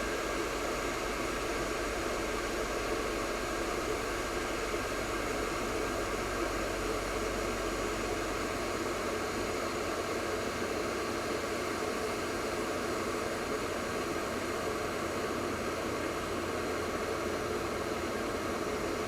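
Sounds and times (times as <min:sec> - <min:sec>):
electric kettle heating water: 0:00.0 - 0:19.0.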